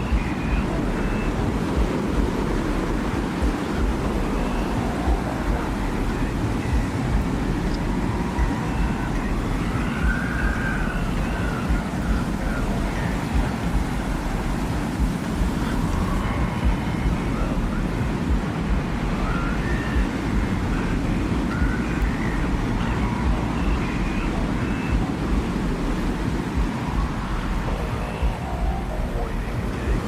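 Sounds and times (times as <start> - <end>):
deep blowing wind: 0.0 - 30.0.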